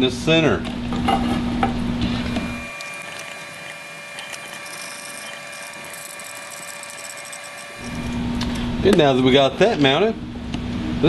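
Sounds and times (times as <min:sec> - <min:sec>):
low workshop hum: 0:00.0 - 0:11.0
faint steady whine: 0:02.0 - 0:11.0.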